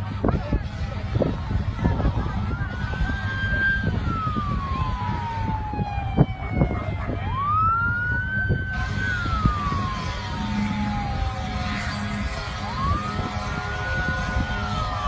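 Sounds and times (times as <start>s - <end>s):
emergency siren wailing: 1.1s - 15.0s.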